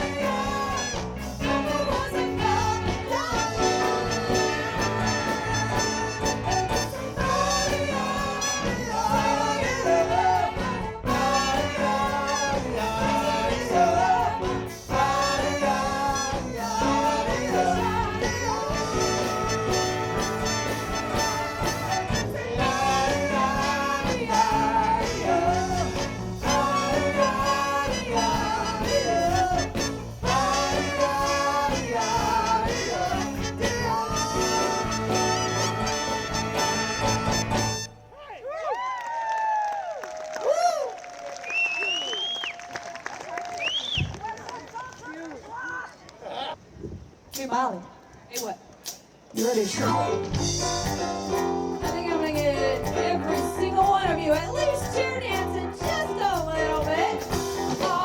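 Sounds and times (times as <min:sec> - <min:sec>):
soul band playing live: 0:00.0 - 0:38.1, 0:48.3 - 0:58.0.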